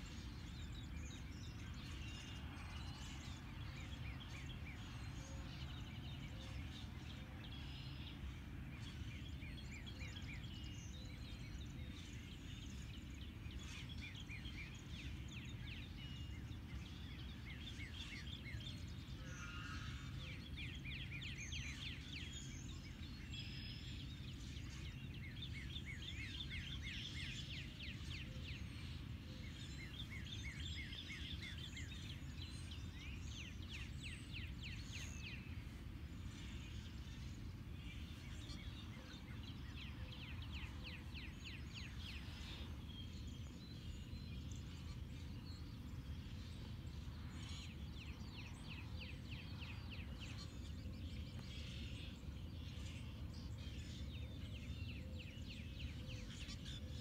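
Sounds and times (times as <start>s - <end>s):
songbirds chirping and trilling: 0.0s - 57.0s
steady low hum: 0.0s - 57.0s.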